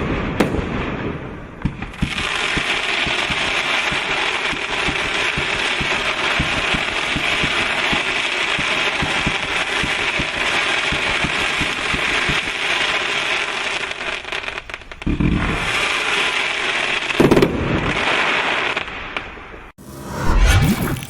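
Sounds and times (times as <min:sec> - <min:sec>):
firework crackling and popping: 0:00.0 - 0:19.7.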